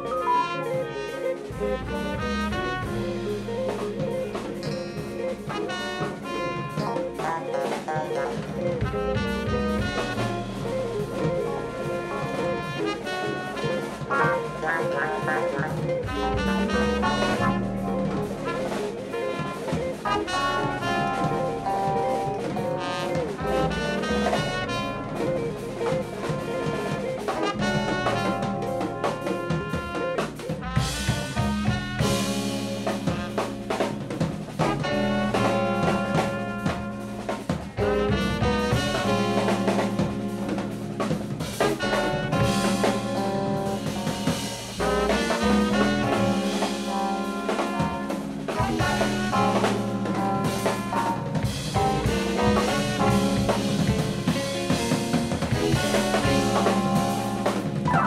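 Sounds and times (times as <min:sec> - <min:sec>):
drum kit: 0:00.0 - 0:58.0
electric keyboard: 0:00.0 - 0:58.0
trumpet: 0:00.0 - 0:58.0
bass line: 0:01.4 - 0:58.0.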